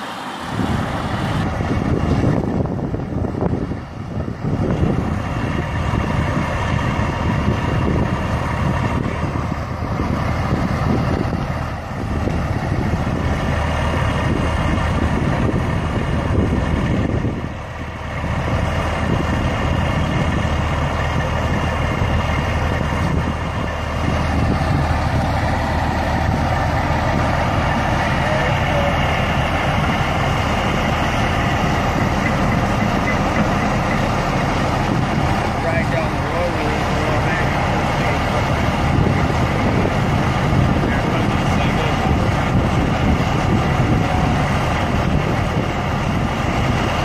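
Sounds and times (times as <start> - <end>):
truck engine idling: 0.0 - 47.0.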